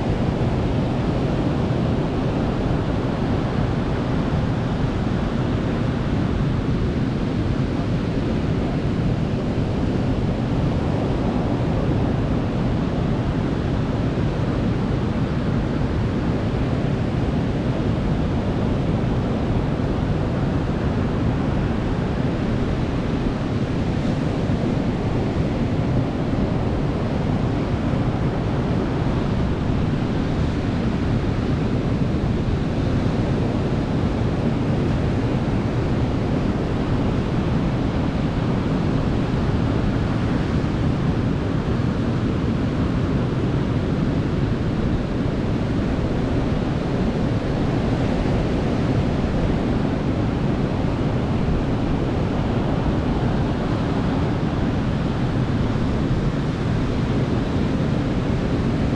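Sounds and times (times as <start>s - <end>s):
ocean waves washing on beach: 0.0s - 58.9s.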